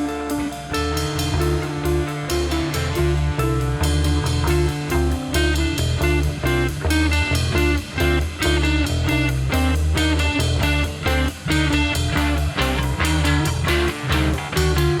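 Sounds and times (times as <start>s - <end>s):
driving drum beat: 0.0s - 15.0s
electric guitars: 0.0s - 15.0s.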